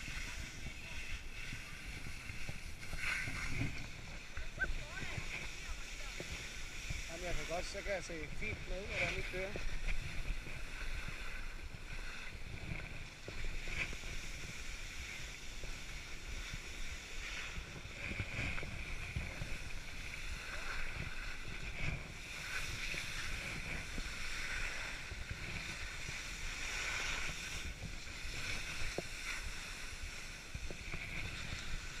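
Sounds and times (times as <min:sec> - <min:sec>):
skis scraping over snow: 0:00.0 - 0:32.0
wind noise on microphone: 0:00.0 - 0:32.0.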